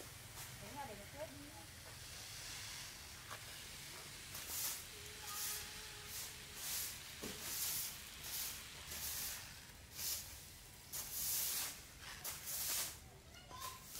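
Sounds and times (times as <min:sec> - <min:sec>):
spray bottle hissing: 0:01.8 - 0:13.9.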